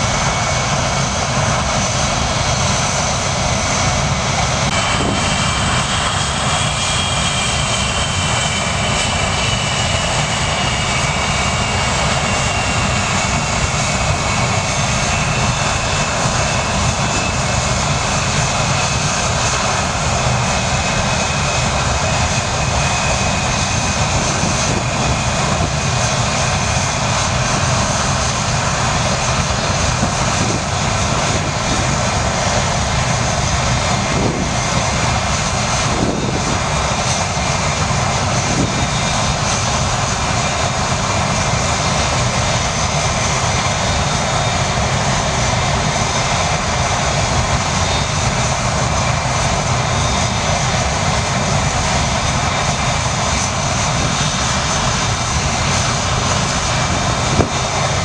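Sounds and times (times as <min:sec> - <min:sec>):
high jet whine: 0:00.0 - 0:58.0
jet engines rushing: 0:00.0 - 0:58.0.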